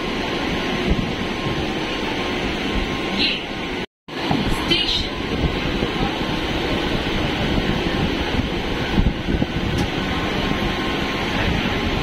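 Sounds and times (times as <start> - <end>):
train rumble and air rush: 0.0 - 12.0.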